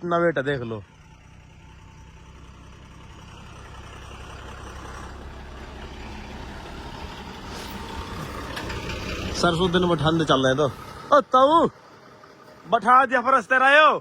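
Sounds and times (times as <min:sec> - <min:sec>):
heavy diesel engine running: 0:00.0 - 0:14.0.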